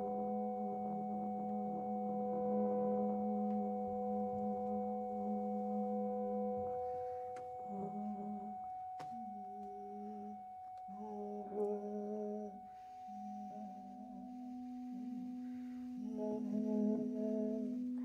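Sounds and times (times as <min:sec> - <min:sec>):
long steady pure tone: 0:00.0 - 0:18.0.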